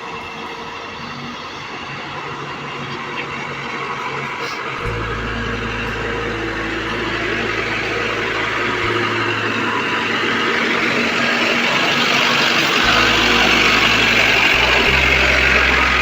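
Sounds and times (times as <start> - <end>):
heavy machinery engine running: 1.0 - 16.0.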